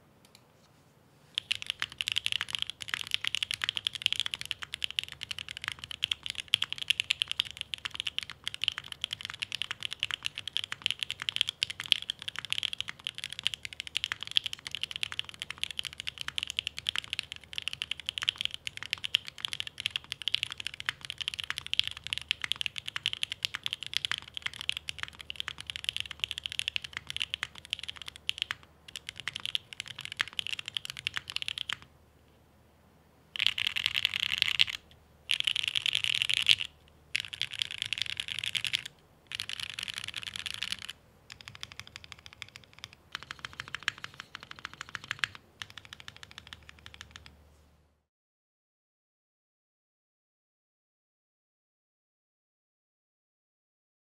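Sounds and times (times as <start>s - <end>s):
typing on mechanical keyboard: 1.4s - 31.9s, 33.4s - 47.3s.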